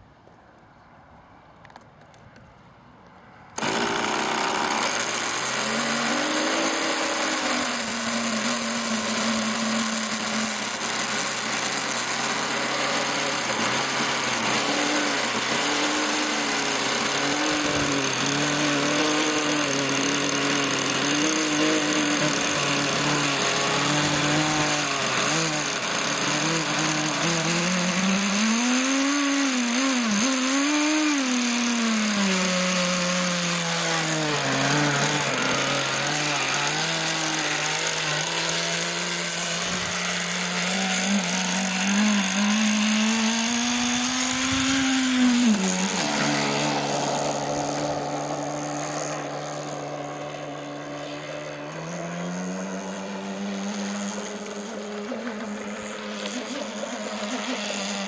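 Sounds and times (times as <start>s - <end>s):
model boat engine revving: 3.6s - 58.0s.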